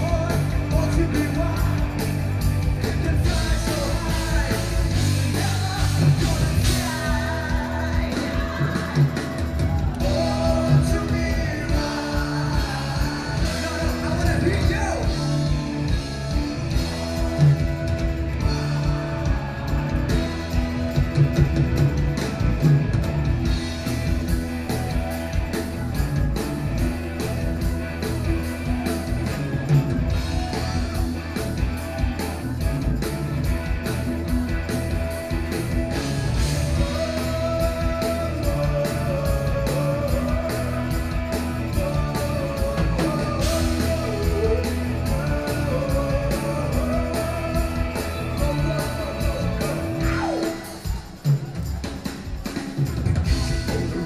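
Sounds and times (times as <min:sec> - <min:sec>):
band playing rock music: 0:00.0 - 0:54.0.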